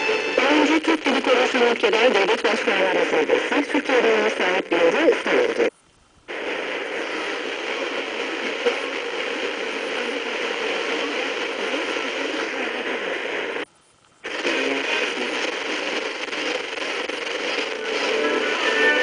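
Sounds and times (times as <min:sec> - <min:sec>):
radio static hiss and crackle: 0:00.0 - 0:19.0
radio station audio: 0:00.0 - 0:19.0.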